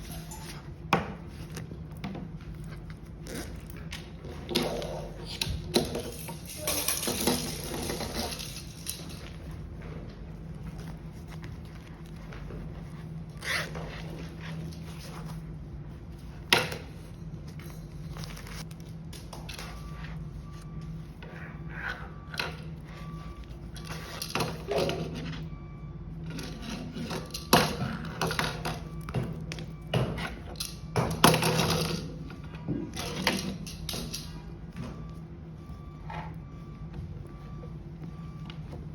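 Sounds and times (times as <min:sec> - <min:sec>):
steady low hum: 0:00.0 - 0:31.3.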